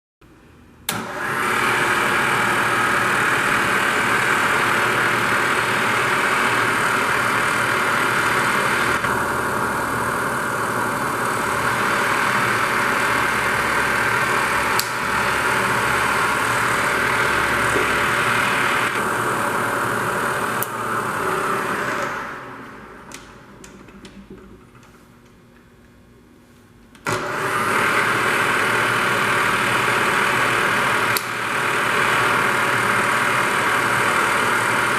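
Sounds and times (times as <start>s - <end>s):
milling machine motor whirring: 0.9s - 23.2s, 27.0s - 34.9s.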